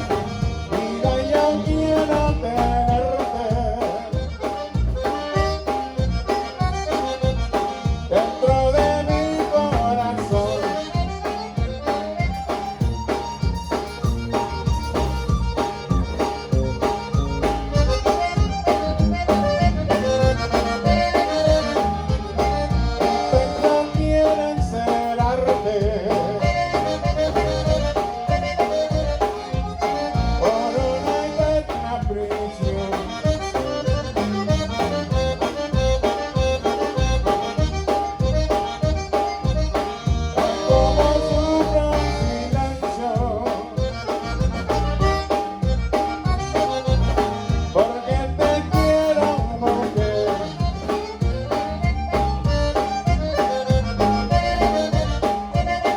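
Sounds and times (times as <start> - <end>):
accordion melody: 0.0 - 55.9
bass and drum beat: 0.0 - 55.9.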